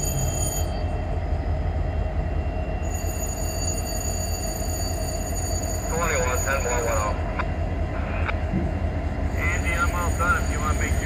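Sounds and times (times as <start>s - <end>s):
diesel locomotive engine rumble: 0.0s - 11.0s
locomotive whine: 0.0s - 11.0s.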